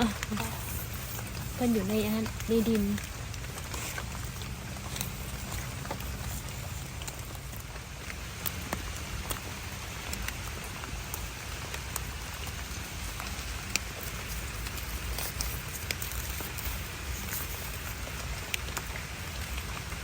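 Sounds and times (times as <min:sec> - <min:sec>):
raindrops tapping: 0:00.0 - 0:20.0
steady rain: 0:00.0 - 0:20.0.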